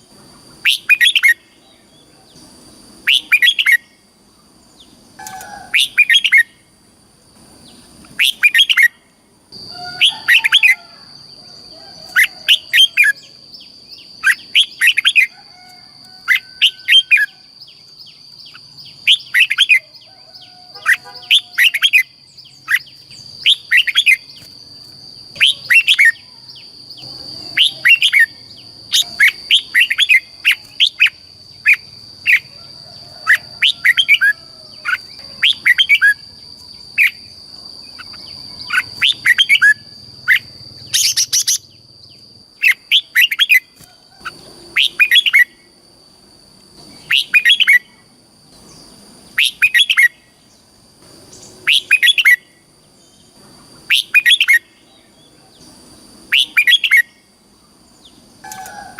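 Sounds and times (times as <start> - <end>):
bulbul chirping song: 0.0 - 6.8, 7.6 - 45.7, 46.8 - 58.9.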